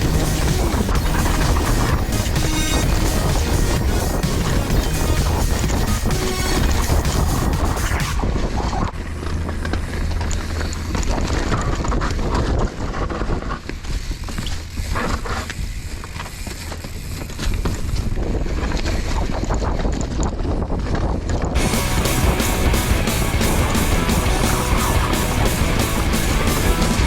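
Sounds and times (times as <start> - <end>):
bike rattling over rough ground: 0.0 - 27.0
wind buffeting microphone: 0.0 - 27.0.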